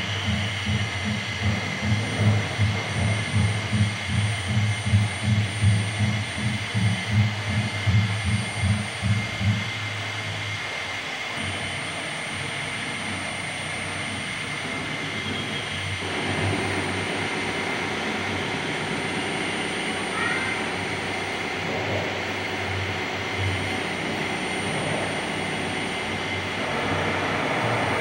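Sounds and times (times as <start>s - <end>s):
pulsing low hum: 0.0s - 28.0s
steady noisy hum: 0.0s - 28.0s.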